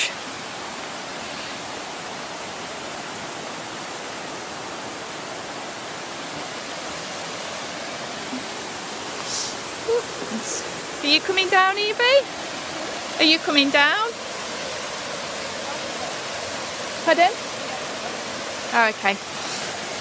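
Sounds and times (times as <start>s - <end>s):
rushing river water: 0.0s - 20.0s.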